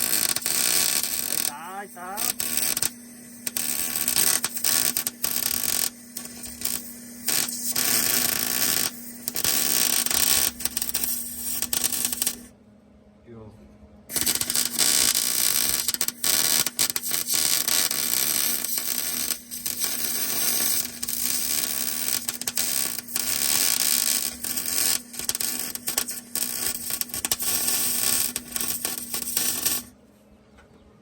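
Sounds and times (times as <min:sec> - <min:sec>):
welding arc crackling: 0:00.0 - 0:12.5, 0:14.1 - 0:30.0
steady hum: 0:00.0 - 0:30.4.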